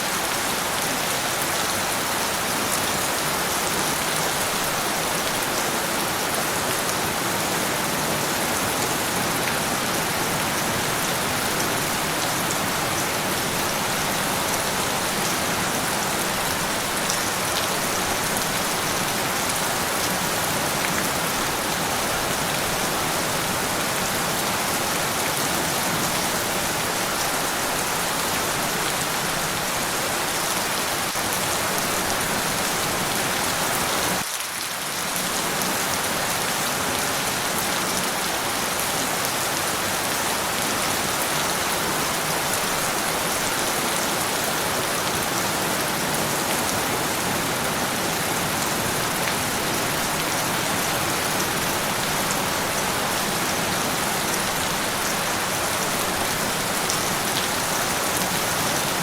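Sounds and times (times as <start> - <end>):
dense rain falling: 0.0 - 59.0.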